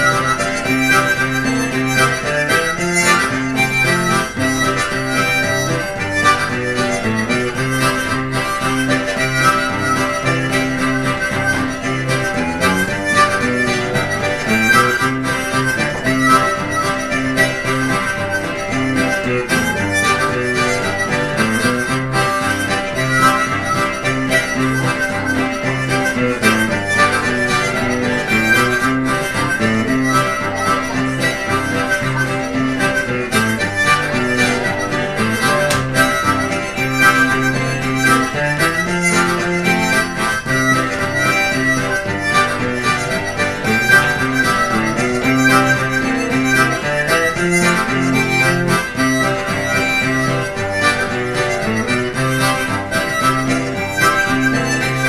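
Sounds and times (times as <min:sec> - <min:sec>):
acoustic guitar accompaniment: 0:00.0 - 0:55.0
harmonica playing a reel: 0:00.0 - 0:55.0.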